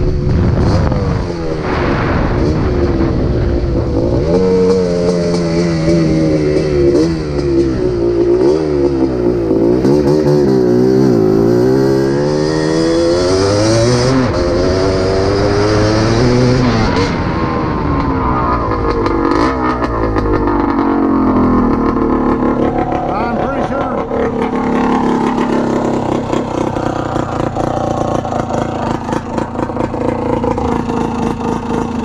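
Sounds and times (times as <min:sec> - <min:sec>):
two-stroke engine revving: 0:00.0 - 0:17.4, 0:18.6 - 0:32.0.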